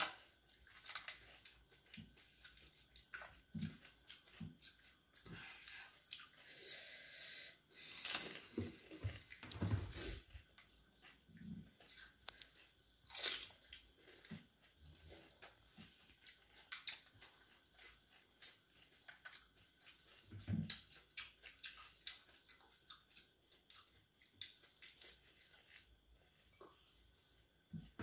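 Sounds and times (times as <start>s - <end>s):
crisp food crunching while chewed: 0.0s - 6.5s, 7.8s - 9.5s, 10.4s - 26.8s.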